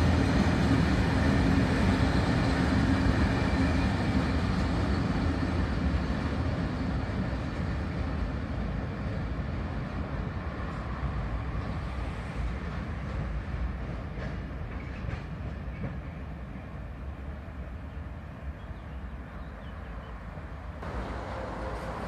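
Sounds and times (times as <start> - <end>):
freight train wheels on rail: 0.0 - 22.0.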